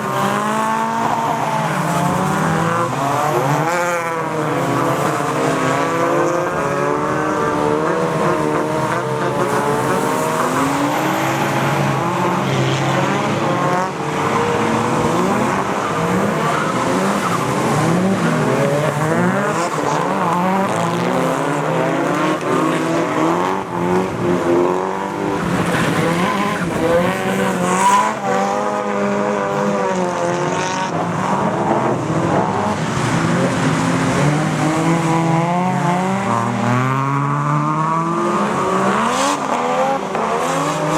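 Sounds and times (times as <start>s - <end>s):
car engines revving hard: 0.0s - 40.9s.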